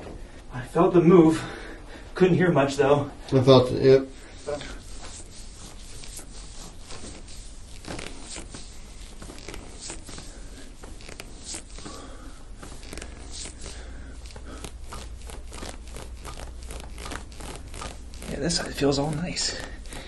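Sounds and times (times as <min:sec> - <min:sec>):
low steady hum: 0:00.0 - 0:20.0
hands rubbing on bare skin: 0:03.4 - 0:20.0.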